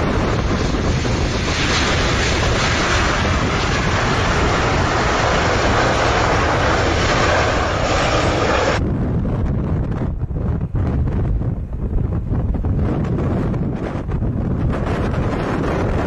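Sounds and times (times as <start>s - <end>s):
airliner engines and tyres rushing: 0.0s - 16.0s.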